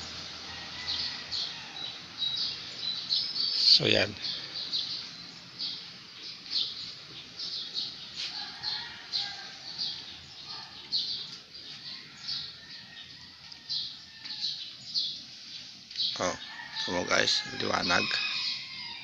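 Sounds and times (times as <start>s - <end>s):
small bird chirping: 0.8s - 16.5s.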